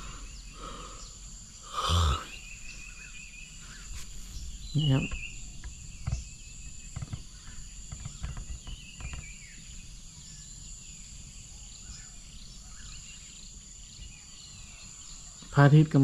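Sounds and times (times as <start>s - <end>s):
birds chirping: 0.0s - 16.0s
high-pitched insect drone: 0.0s - 16.0s.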